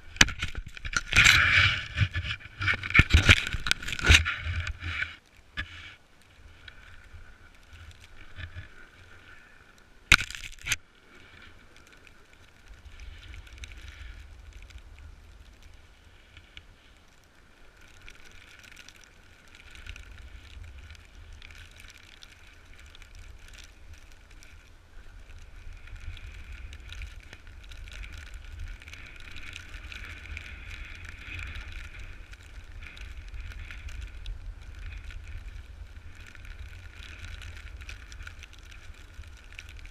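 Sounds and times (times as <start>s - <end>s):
snowboard scraping over snow: 0.0s - 9.8s, 11.0s - 39.9s
wind rumbling on microphone: 0.0s - 39.9s.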